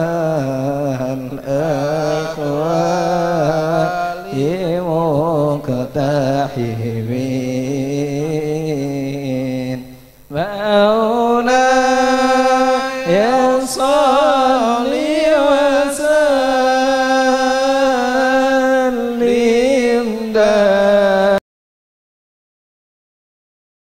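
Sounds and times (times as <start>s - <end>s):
person chant-like singing: 0.0s - 21.4s.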